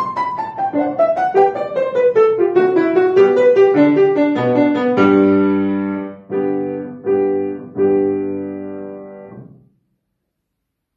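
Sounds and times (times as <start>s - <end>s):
grand piano playing: 0.0s - 9.6s.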